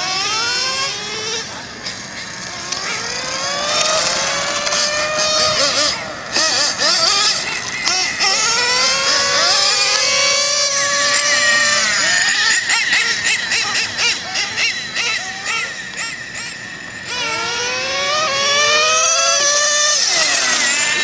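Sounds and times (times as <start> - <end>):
rc car engine revving: 0.0 - 21.0.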